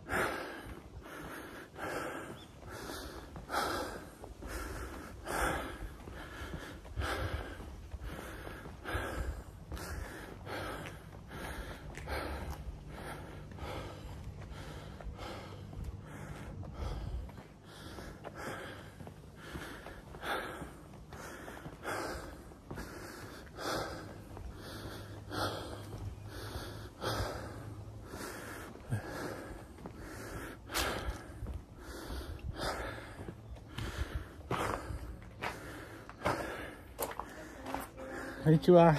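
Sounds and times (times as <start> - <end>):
person breathing heavily: 0.0 - 38.9.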